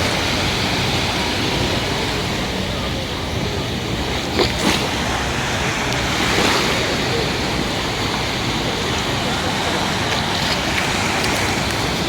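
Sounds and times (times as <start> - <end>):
sea waves washing on shore: 0.0 - 12.0.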